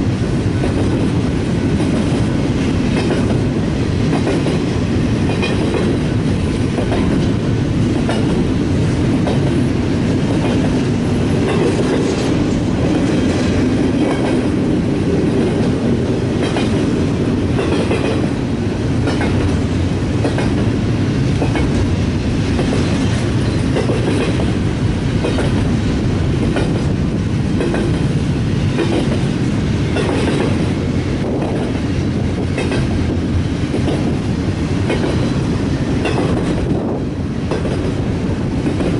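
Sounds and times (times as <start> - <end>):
train low rumble: 0.0 - 38.9
train wheels clicking over rail joints: 0.1 - 38.9.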